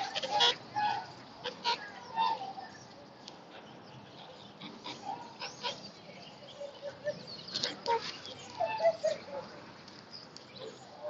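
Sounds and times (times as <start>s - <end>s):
waterbirds squawking and honking: 0.0s - 9.5s.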